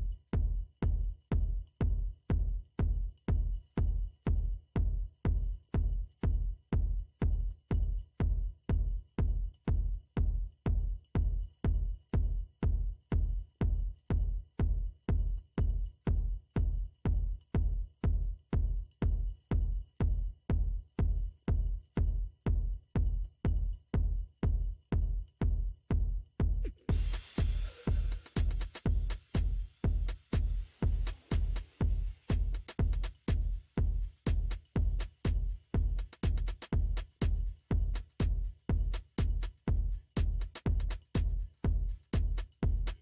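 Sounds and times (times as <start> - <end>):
electronic music with kick drum: 0.0 - 43.0.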